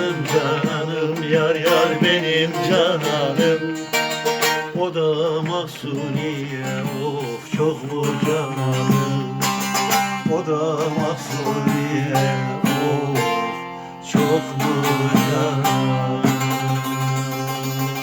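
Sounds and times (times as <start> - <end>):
strummed plucked string instrument: 0.0 - 18.0.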